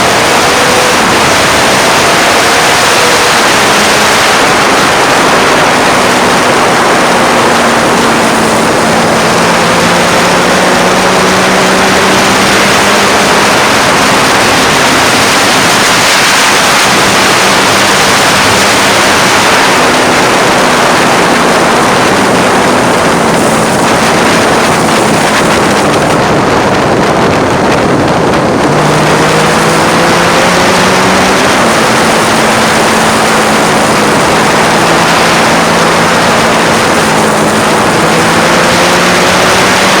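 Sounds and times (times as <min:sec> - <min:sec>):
motorcycle engine running: 0:00.0 - 0:40.0
wind on microphone: 0:00.0 - 0:40.0.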